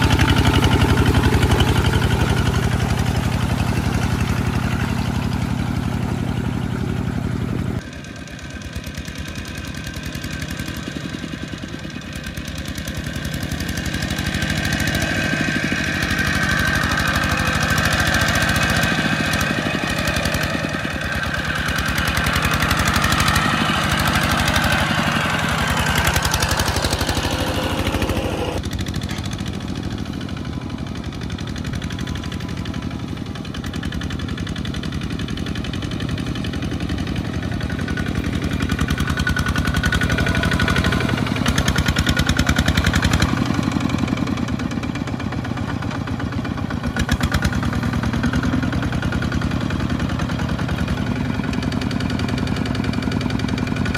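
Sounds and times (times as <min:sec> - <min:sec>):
diesel engines chugging: 0:00.0 - 0:53.9.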